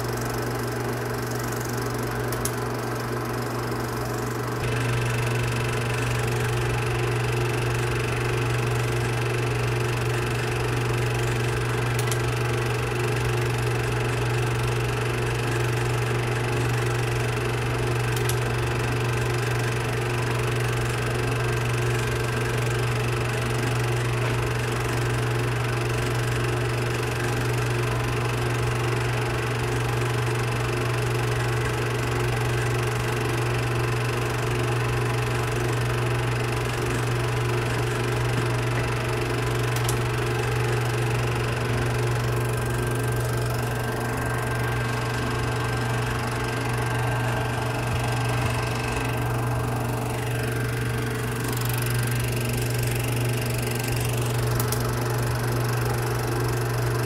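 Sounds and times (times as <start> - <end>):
film projector humming and whirring: 0.0 - 57.0.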